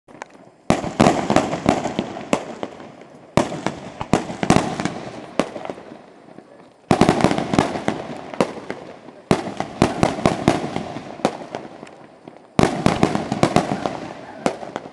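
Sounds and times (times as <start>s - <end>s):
firecrackers banging: 0.1s - 14.9s.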